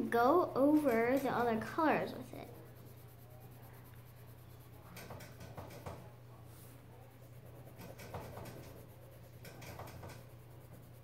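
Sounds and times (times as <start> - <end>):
low steady hum: 0.0 - 11.0
pencil scratching on paper: 0.1 - 11.0.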